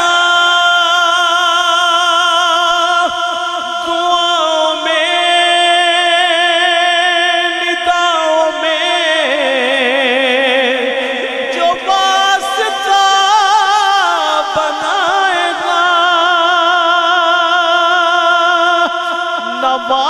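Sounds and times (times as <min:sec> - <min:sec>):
man singing devotional verse: 0:00.0 - 0:20.0.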